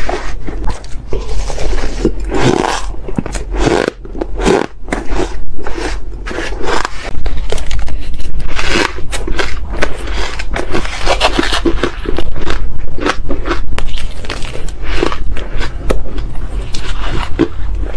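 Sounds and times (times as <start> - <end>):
crunching shaved ice: 1.6 - 17.9.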